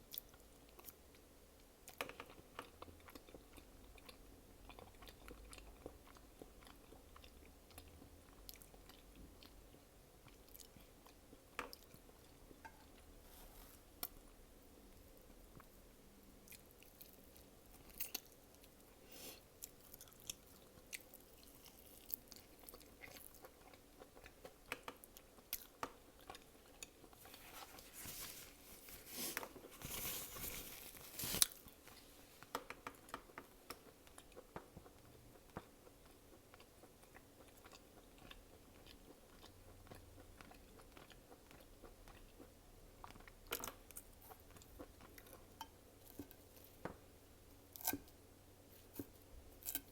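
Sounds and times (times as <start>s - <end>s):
person chewing and crunching: 0.1s - 13.1s, 16.4s - 46.9s, 47.6s - 49.9s.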